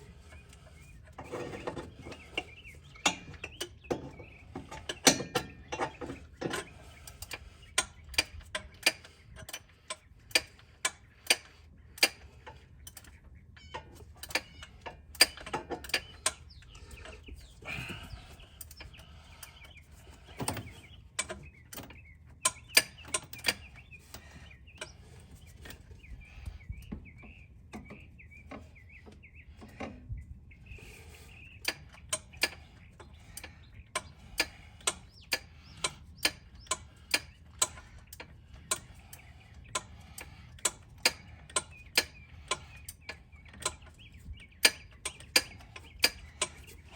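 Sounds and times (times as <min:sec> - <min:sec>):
faint bird chirping: 0:00.0 - 0:46.9.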